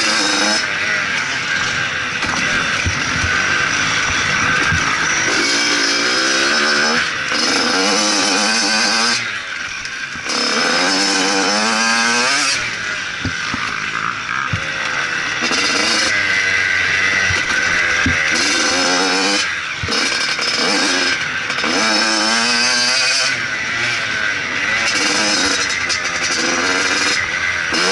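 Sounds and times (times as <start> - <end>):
motocross bike engine revving: 0.0 - 27.9.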